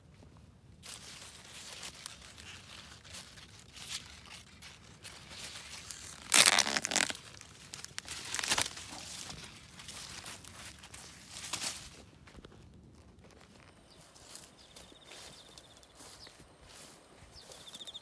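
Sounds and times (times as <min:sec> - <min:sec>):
corn leaves rustling: 0:00.8 - 0:18.0.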